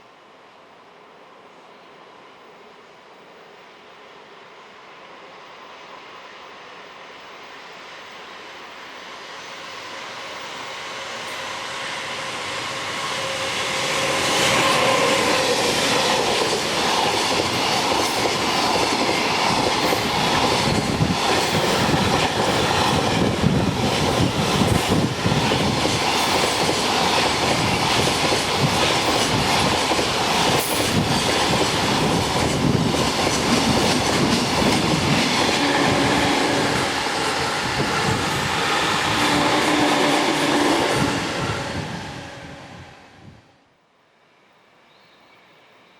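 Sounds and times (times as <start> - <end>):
freight train passing: 0.0 - 43.7.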